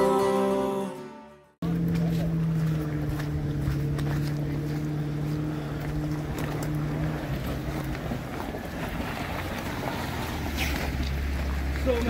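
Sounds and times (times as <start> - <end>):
off-road vehicle engine humming: 1.6 - 12.0.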